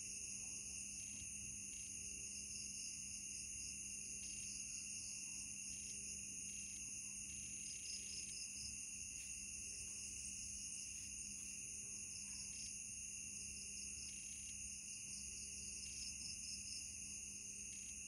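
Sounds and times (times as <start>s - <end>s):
crickets trilling: 0.1s - 18.0s.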